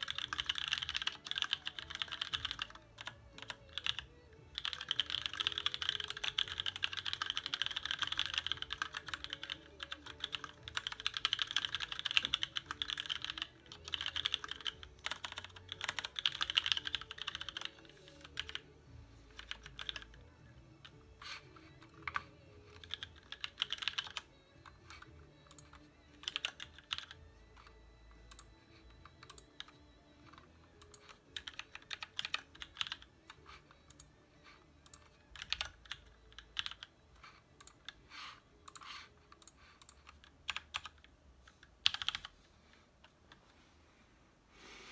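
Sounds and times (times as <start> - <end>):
typing on mechanical keyboard: 0.0 - 18.7, 19.3 - 42.4.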